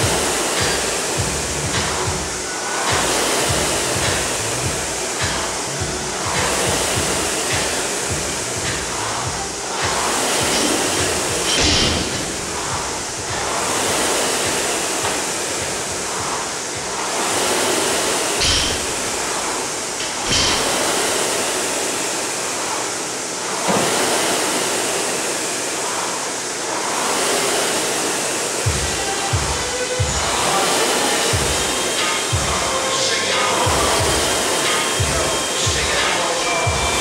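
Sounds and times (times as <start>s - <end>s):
rowing machine fan whooshing: 0.0s - 37.0s.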